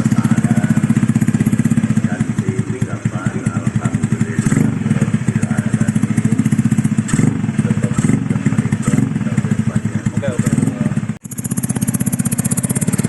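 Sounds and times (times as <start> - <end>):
scooter engine pulsing exhaust: 0.0 - 13.0.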